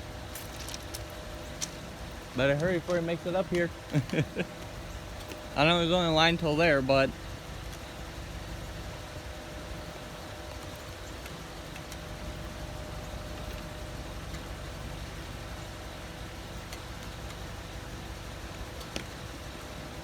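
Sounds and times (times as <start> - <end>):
engine idling hum: 0.0 - 20.0.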